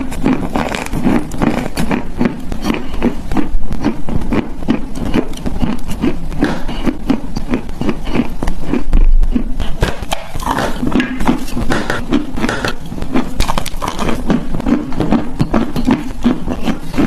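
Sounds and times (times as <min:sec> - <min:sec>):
chalk being chewed: 0:00.0 - 0:17.0.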